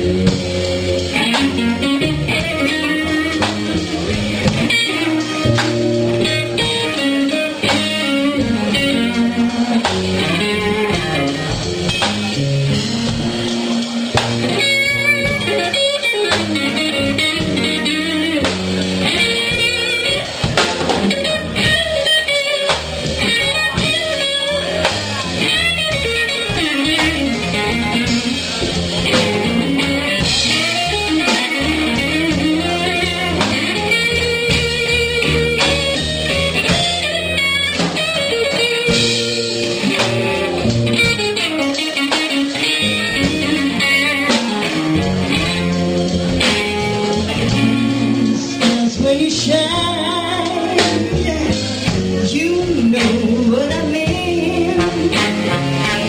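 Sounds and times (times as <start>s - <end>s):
bluesy band instrumental with guitar: 0.0s - 56.0s.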